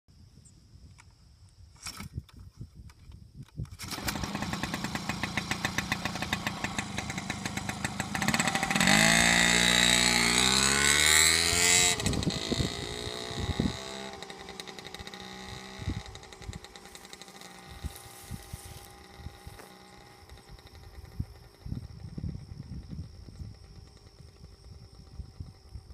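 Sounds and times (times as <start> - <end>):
small engine running and revving: 3.8 - 25.9.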